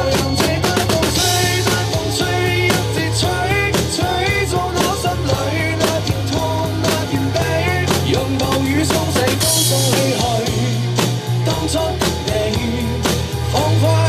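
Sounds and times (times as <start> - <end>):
drum kit playing: 0.0 - 14.0
pop backing track: 0.0 - 14.0.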